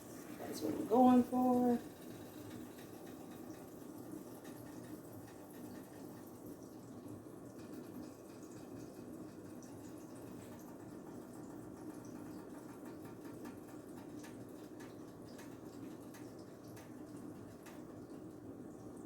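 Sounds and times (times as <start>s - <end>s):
batter sizzling in a pan: 0.0s - 18.5s.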